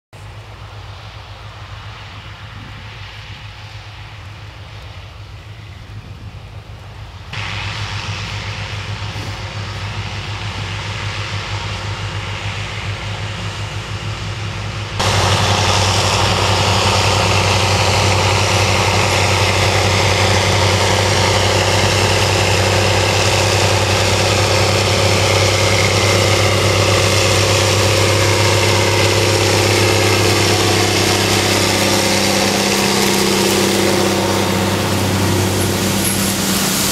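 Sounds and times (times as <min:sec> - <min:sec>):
tractor engine close by: 0:00.1 - 0:36.9
distant farm machinery engines: 0:00.2 - 0:36.9.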